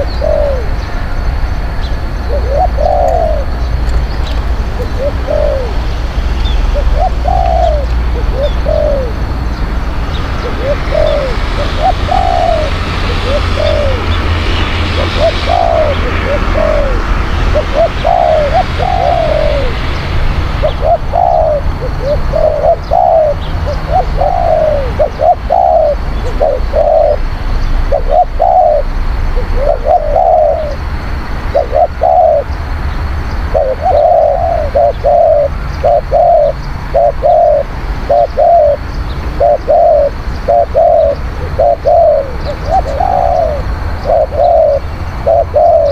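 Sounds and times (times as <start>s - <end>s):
dove cooing: 0.0s - 0.8s, 2.2s - 9.4s, 10.2s - 20.0s, 20.6s - 30.8s, 31.5s - 32.6s, 33.4s - 45.9s.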